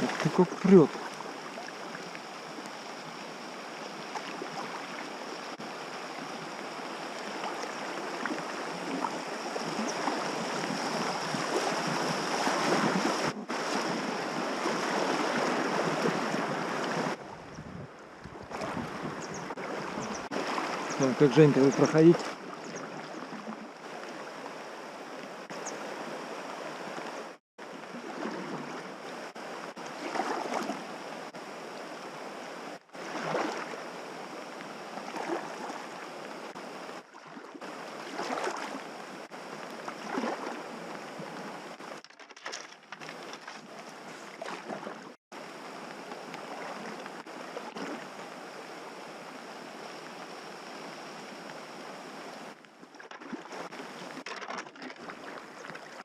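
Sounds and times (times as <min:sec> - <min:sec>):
river water rushing: 0:00.0 - 0:42.0, 0:43.0 - 0:56.0
water splashes: 0:00.0 - 0:56.0.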